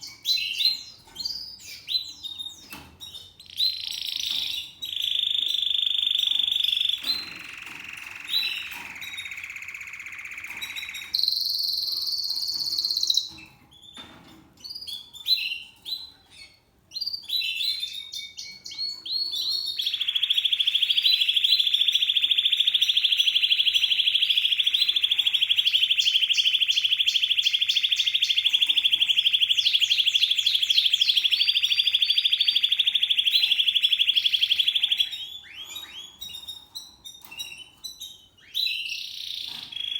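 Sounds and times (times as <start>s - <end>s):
canary singing rolling trill: 0.0s - 39.9s.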